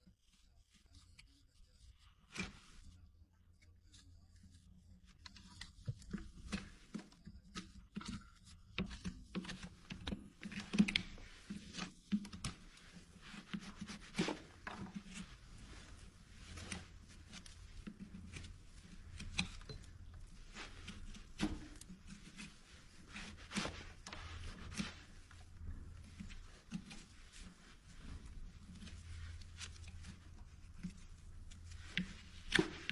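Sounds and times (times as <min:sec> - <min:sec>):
hoof trimming clicks and scraping: 0:05.3 - 0:32.9.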